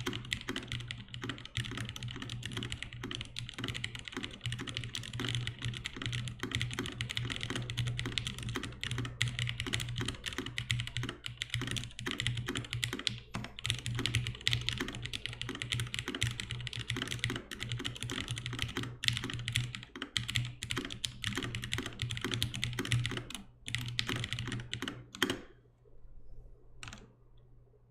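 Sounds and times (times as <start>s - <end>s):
fast typing on mechanical keyboard: 0.0s - 25.5s.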